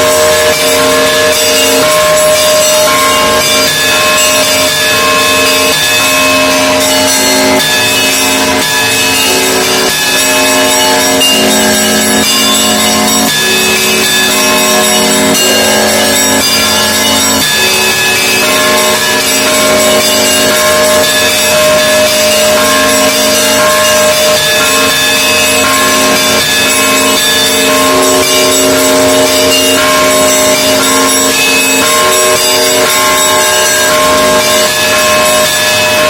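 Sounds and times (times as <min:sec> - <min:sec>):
many bells pealing: 0:00.0 - 0:36.0.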